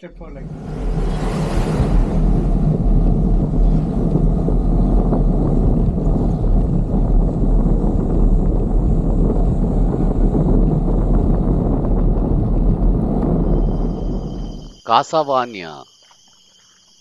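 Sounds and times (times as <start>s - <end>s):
wind rumble on microphone: 0.0s - 14.8s.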